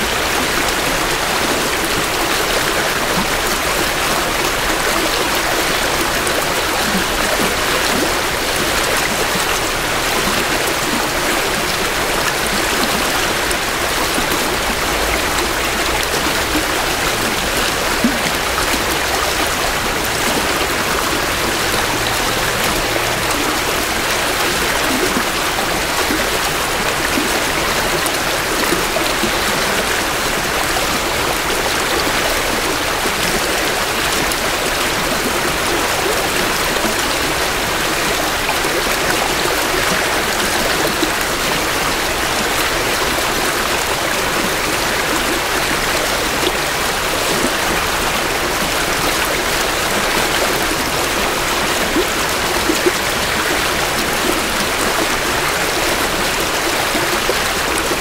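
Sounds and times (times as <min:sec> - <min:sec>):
creek water flowing over rocks: 0:00.0 - 0:58.0.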